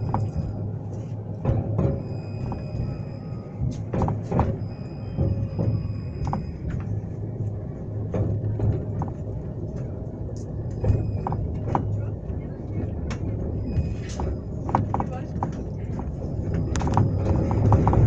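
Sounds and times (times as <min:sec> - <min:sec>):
tram rumbling: 0:00.0 - 0:18.0
wheels knocking and rattling: 0:00.0 - 0:18.0.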